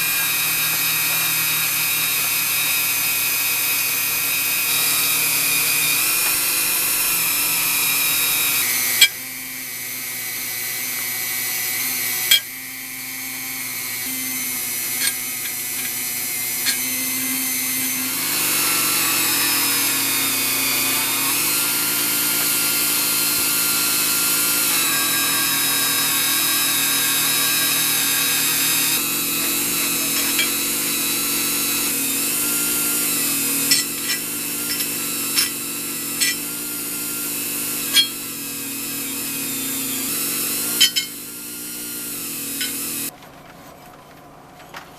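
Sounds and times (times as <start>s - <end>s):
power tool motor running: 0.0s - 43.1s.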